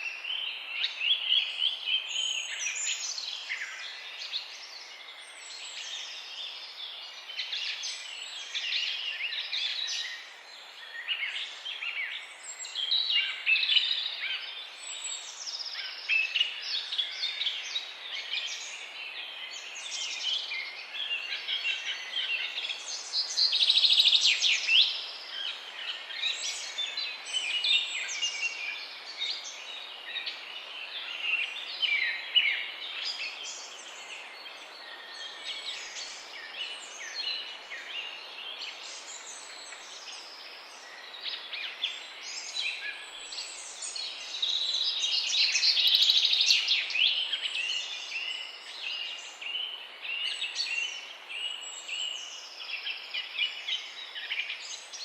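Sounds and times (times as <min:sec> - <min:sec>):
faint outdoor hiss: 0:00.0 - 0:55.0
songbirds singing and chirping: 0:00.0 - 0:55.0.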